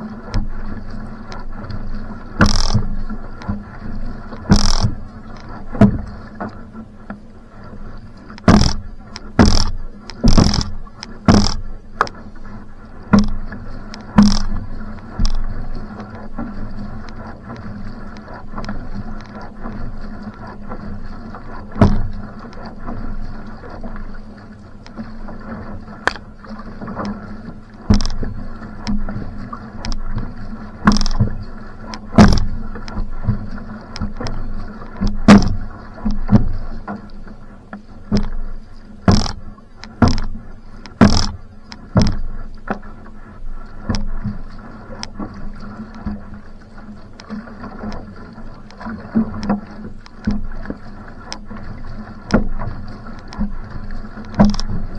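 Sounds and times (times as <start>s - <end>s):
paddle splashes and knocks: 0.0s - 54.9s
water rushing along hull: 0.0s - 54.9s.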